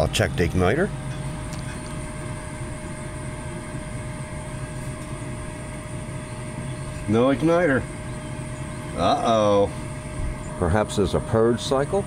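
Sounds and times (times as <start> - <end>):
pellet stove motors humming: 0.0 - 12.0.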